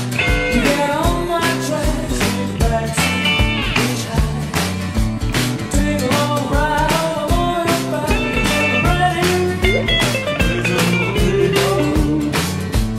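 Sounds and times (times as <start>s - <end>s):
band playing: 0.0s - 12.9s
drums steady beat: 0.0s - 12.9s.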